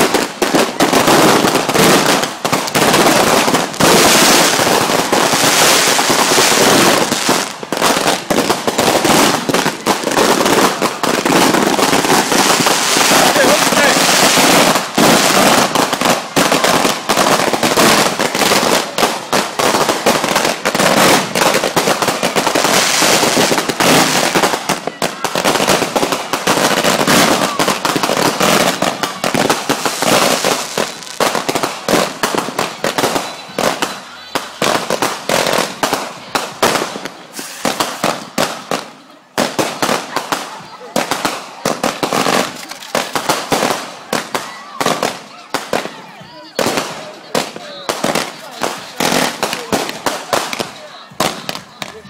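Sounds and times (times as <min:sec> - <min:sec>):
fireworks popping and crackling: 0:00.0 - 0:52.0.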